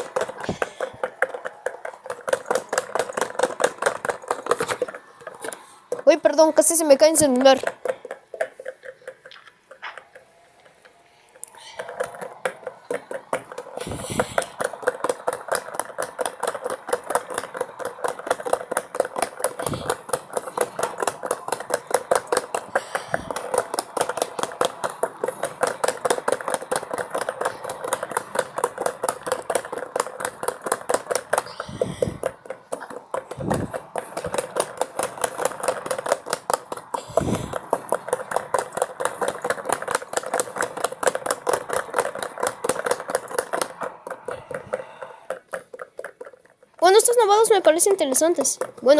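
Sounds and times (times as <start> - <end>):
washing machine spin rattle: 0.0 - 48.9.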